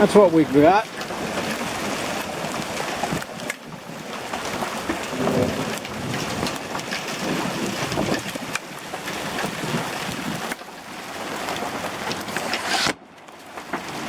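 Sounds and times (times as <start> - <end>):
hail and rain on a roof: 0.0 - 12.5.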